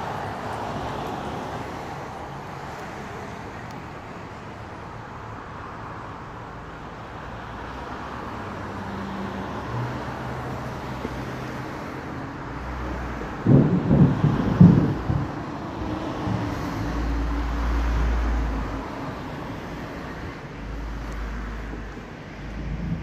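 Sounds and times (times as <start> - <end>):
distant road traffic hiss: 0.0 - 23.0
passing vehicle engine hum: 0.0 - 23.0.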